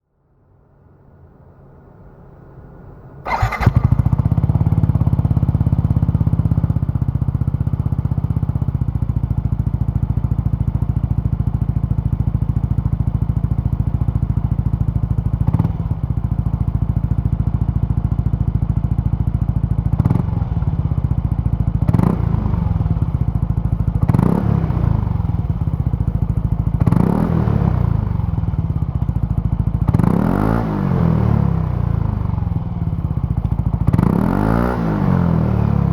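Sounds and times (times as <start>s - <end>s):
scooter engine idling and revving: 3.3s - 35.9s.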